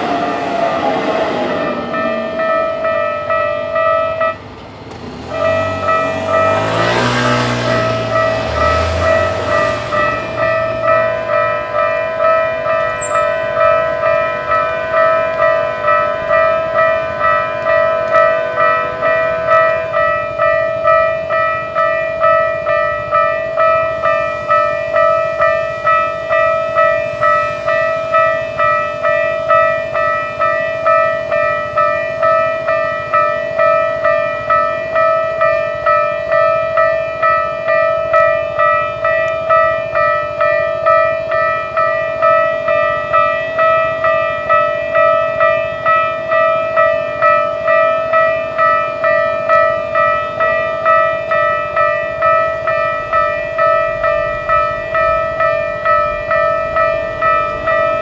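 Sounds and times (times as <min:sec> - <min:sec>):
level crossing warning alarm: 0:00.0 - 0:58.0.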